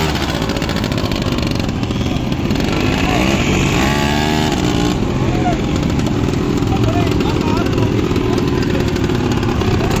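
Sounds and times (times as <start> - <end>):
quad bike engine passing: 0.0 - 10.0
people's voices: 1.2 - 10.0.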